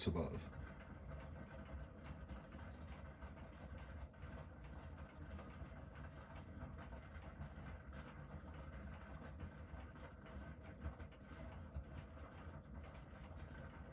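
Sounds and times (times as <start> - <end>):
faint rapid ticking: 0.0 - 13.9
low steady hum: 0.0 - 13.9.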